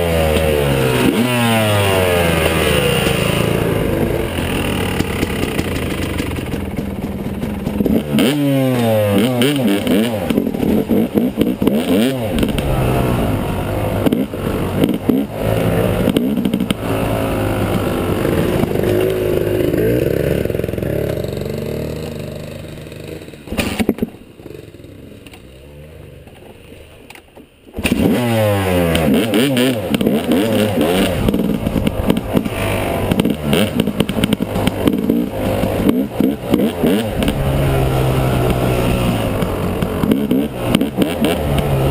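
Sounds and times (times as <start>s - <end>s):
dirt bike engine revving: 0.0s - 26.3s, 27.8s - 41.9s.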